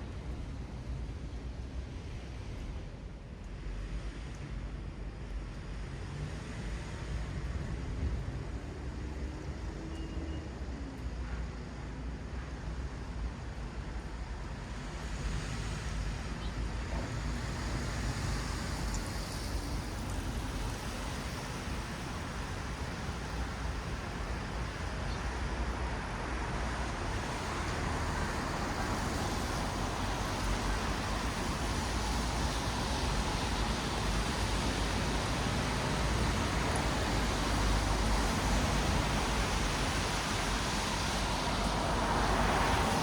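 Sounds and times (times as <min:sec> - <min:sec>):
low rumble of engines: 0:00.0 - 0:43.0
tyres hissing on wet road: 0:01.6 - 0:43.0.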